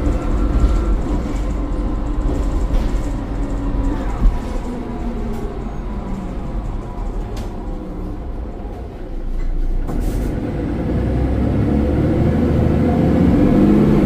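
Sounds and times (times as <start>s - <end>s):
diesel bus engine running: 0.0s - 14.0s.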